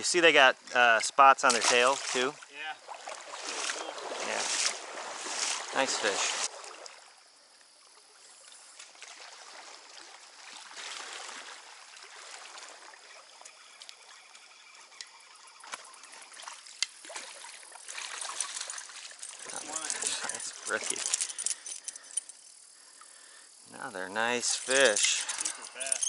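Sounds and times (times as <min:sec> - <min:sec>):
stream water running and trickling: 0:00.0 - 0:26.0.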